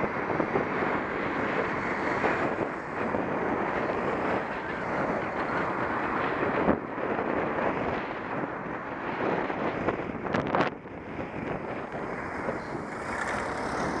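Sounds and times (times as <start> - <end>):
road traffic: 0.0 - 14.0
wind on microphone: 0.0 - 14.0.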